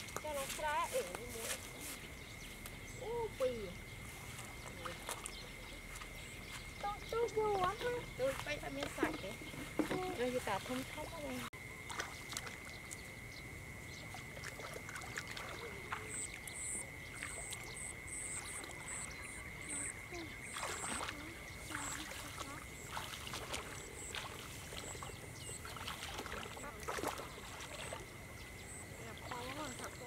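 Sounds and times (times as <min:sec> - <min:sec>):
feet wading through water: 0:00.0 - 0:13.3, 0:13.9 - 0:30.0.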